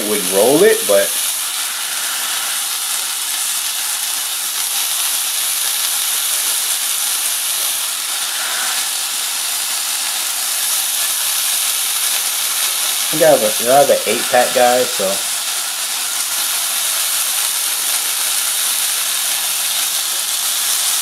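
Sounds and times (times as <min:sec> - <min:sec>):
hot dogs sizzling on grill: 0:00.0 - 0:21.0.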